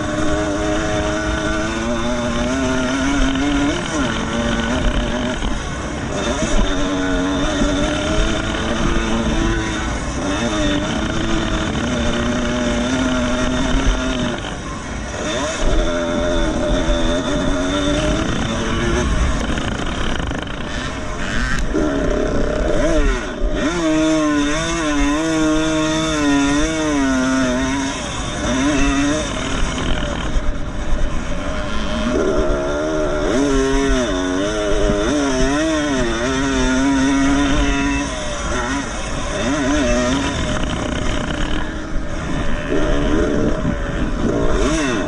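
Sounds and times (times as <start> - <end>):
two-stroke motocross bikes revving: 0.0 - 45.0.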